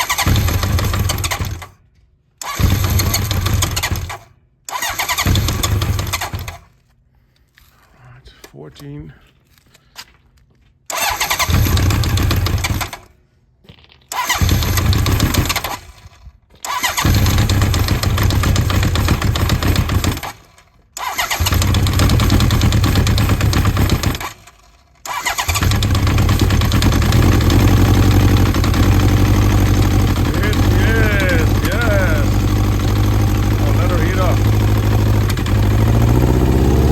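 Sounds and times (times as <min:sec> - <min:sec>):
motorcycle engine starting: 0:00.0 - 0:01.8, 0:02.4 - 0:06.7, 0:10.9 - 0:13.2, 0:14.1 - 0:36.9.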